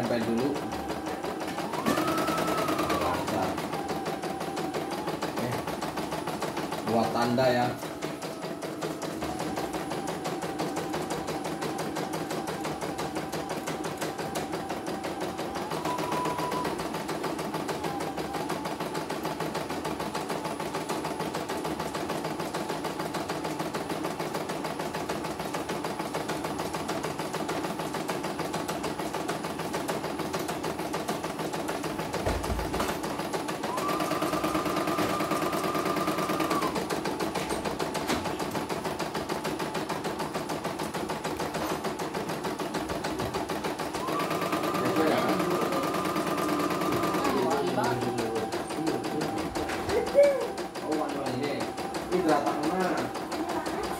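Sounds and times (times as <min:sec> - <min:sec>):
embroidery machine stitching: 0:00.0 - 0:53.9.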